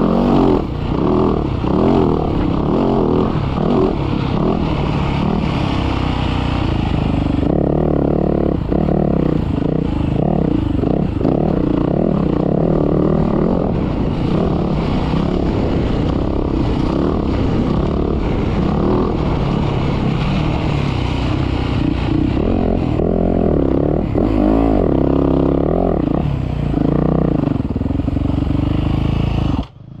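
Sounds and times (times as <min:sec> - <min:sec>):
motocross bike engine revving: 0:00.0 - 0:29.8.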